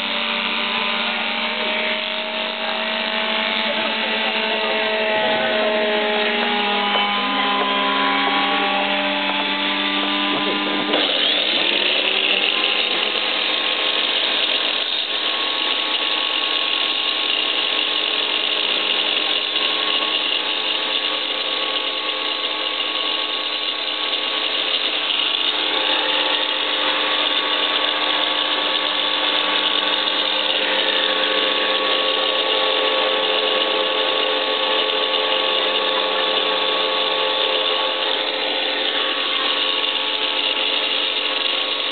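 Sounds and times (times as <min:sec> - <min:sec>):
electric power tool motor whining: 0:00.0 - 0:41.9.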